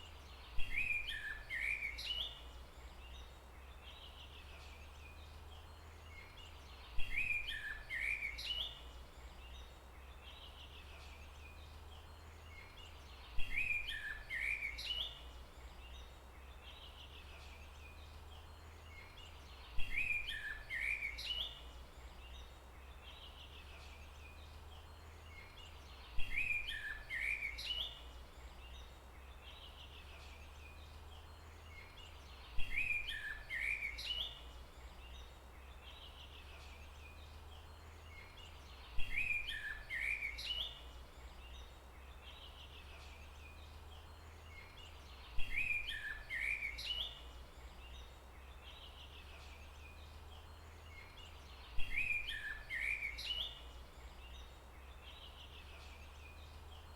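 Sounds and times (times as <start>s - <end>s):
songbird chirping: 0.0s - 56.9s.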